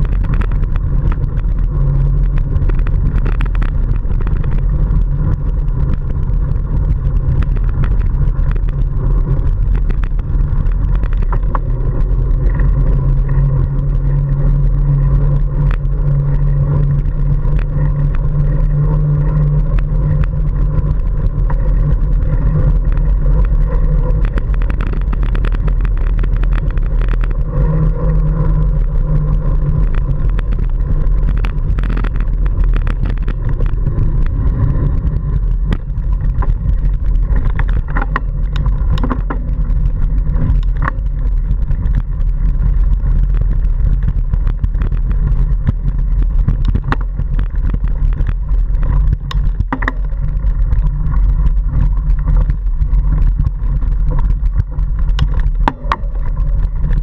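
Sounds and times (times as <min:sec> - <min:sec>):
bike rattling and knocking: 0:00.0 - 0:57.0
wind buffeting microphone: 0:00.0 - 0:57.0.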